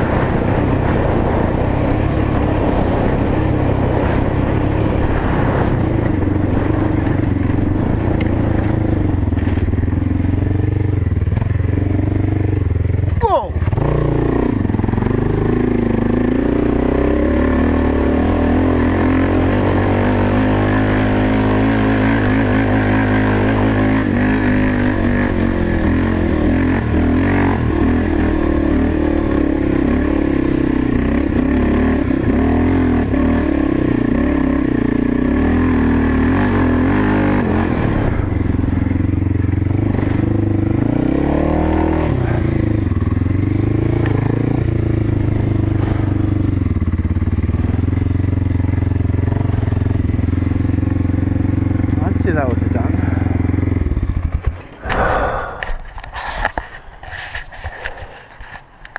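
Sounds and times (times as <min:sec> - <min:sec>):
motorcycle engine revving under load: 0:00.0 - 0:58.9.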